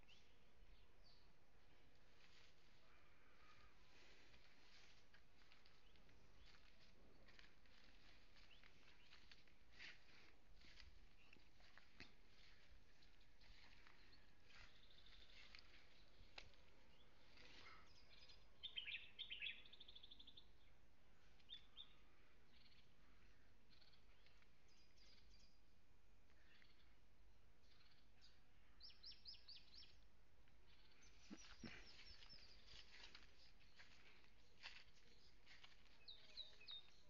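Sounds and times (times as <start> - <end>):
faint bird chirps: 2.8 - 10.0, 10.6 - 37.0.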